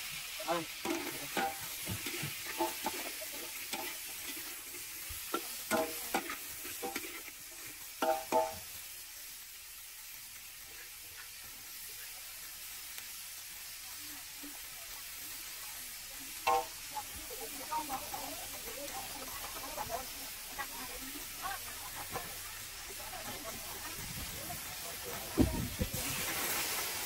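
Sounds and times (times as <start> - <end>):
food sizzling in a pan: 0.0 - 27.0.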